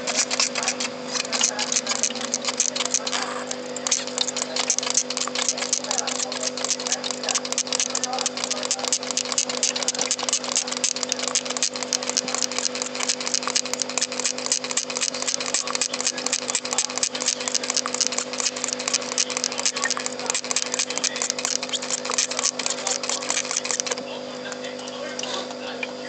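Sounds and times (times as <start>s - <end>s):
mist sprayer squirts: 0.0s - 24.0s
steady low hum: 0.0s - 26.0s.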